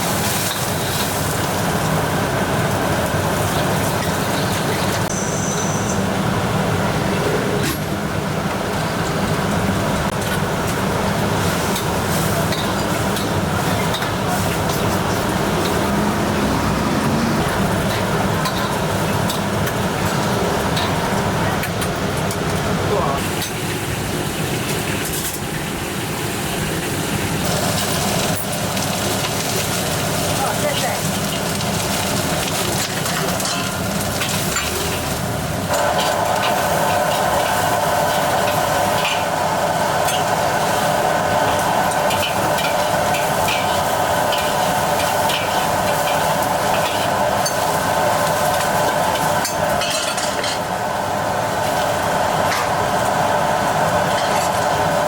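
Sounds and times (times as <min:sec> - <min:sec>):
exhaust fan and burners roaring: 0:00.0 - 0:55.0.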